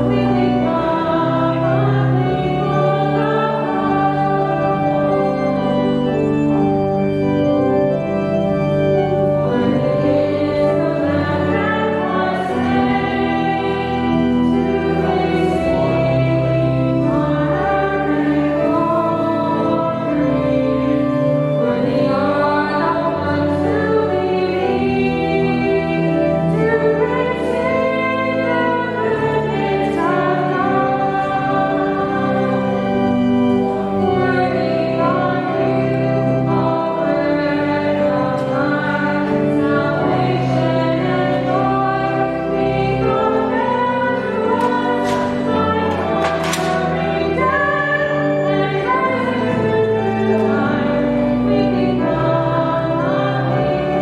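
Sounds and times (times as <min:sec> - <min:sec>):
choir singing a hymn: 0:00.0 - 0:54.0
organ accompaniment: 0:00.0 - 0:54.0.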